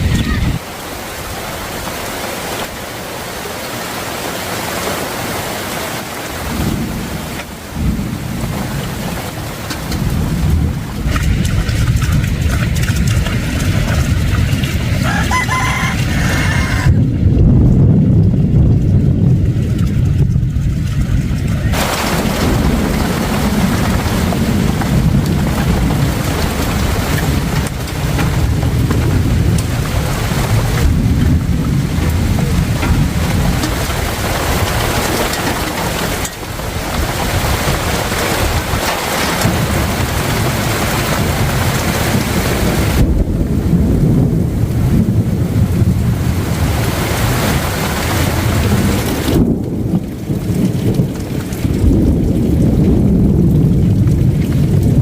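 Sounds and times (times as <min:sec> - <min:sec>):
heavy rain pouring: 0:00.0 - 0:55.0
low rumble of wind or thunder: 0:00.0 - 0:55.0.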